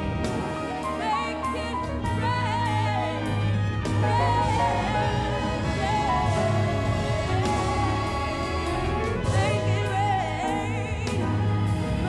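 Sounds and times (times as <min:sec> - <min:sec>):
symphony orchestra: 0:00.0 - 0:12.0
woman singing with vibrato: 0:00.8 - 0:11.8.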